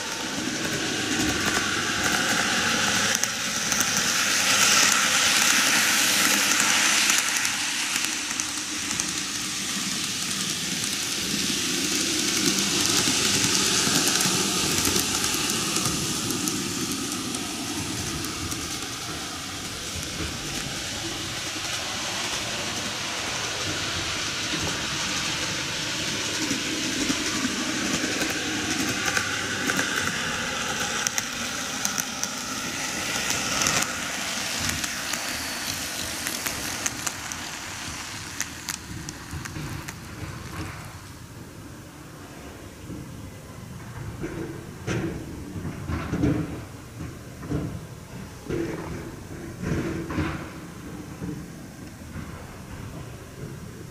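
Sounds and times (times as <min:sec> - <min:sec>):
model train motors whirring: 0:00.0 - 0:53.9
wheels clicking on rails: 0:00.0 - 0:53.9.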